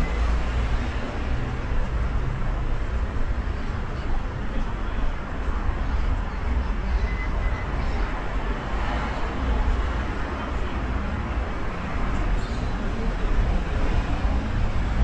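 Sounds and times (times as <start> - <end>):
passing traffic rumble: 0.0 - 15.0.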